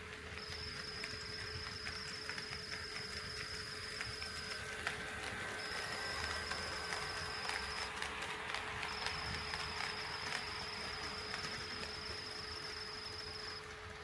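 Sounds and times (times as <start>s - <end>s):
model train motor hum: 0.0s - 14.0s
model train wheels clicking: 0.0s - 14.0s.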